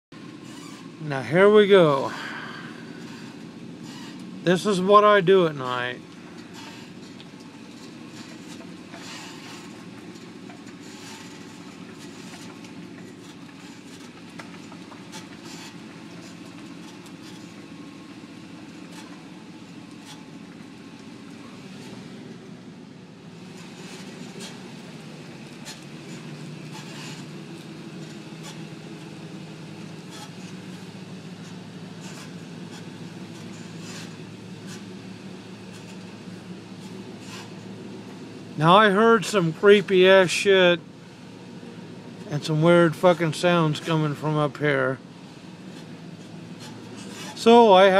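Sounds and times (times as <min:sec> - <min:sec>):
truck engine and tyre rumble: 0:00.0 - 0:47.9.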